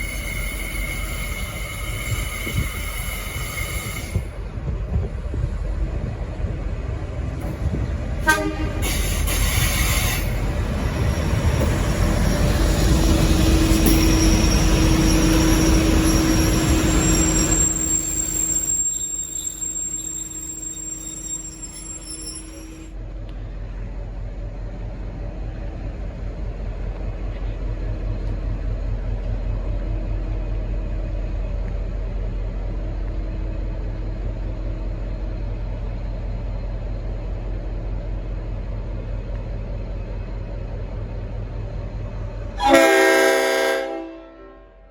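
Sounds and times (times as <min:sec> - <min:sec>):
diesel locomotive train running: 0:00.0 - 0:44.9.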